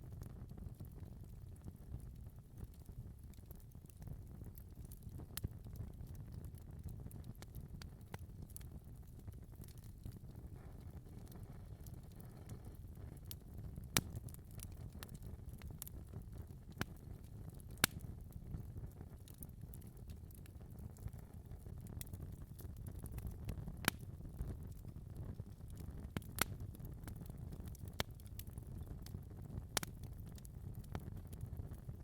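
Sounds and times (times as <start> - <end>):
fire popping and crackling: 0.0 - 32.0
fire rumbling: 0.0 - 32.0.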